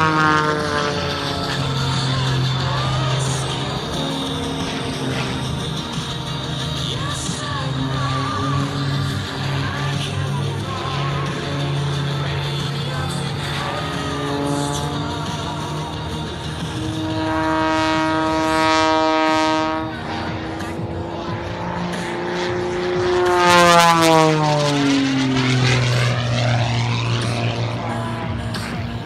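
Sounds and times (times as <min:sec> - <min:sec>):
propeller plane engine: 0:00.0 - 0:29.0.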